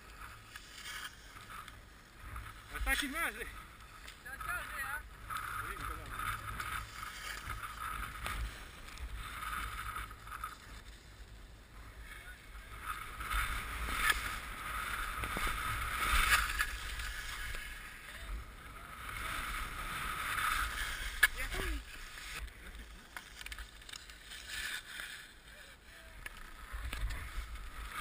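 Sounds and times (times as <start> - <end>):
skis scraping over snow: 0.0 - 28.0.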